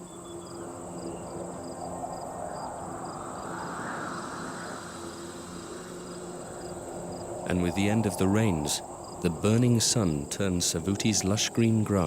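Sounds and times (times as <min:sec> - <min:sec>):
faint insect chirp: 0:00.0 - 0:12.0
insects trilling: 0:00.0 - 0:12.0.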